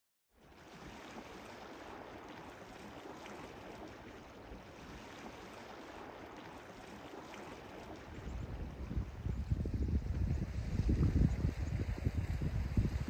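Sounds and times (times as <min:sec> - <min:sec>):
light wind: 0:00.4 - 0:13.0
small waves lapping: 0:00.4 - 0:13.0.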